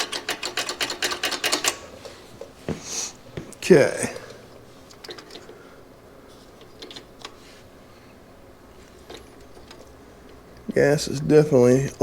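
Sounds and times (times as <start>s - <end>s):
background hum: 0.0s - 12.0s.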